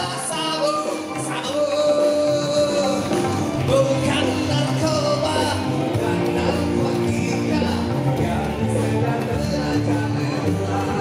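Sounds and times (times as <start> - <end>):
band accompaniment: 0.0 - 11.0
man singing into microphone: 0.0 - 11.0.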